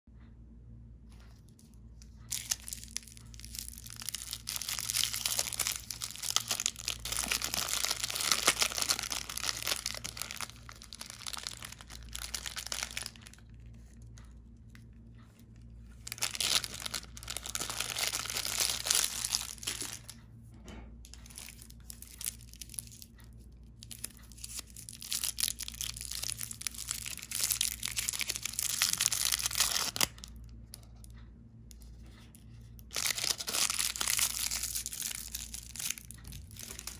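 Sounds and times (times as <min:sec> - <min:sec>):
candy wrappers crinkling: 0:02.0 - 0:14.1, 0:15.6 - 0:20.2, 0:21.2 - 0:23.1, 0:23.7 - 0:31.1, 0:31.8 - 0:36.9.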